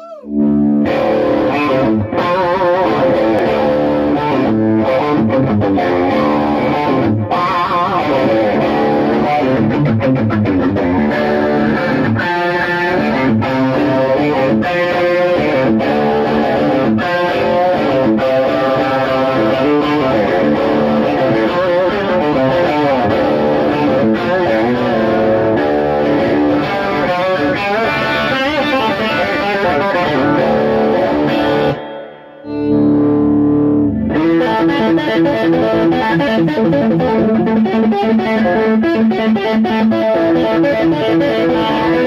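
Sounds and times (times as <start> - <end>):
amplified electric guitar: 0.0 - 42.0.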